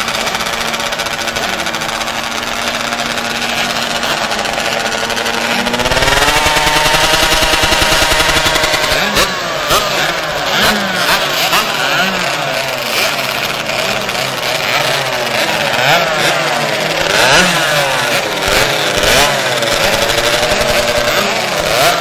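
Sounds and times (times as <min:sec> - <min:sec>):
engine throttle blips: 0:00.0 - 0:22.0
kart engines running: 0:00.0 - 0:22.0
kart revving past: 0:00.0 - 0:22.0.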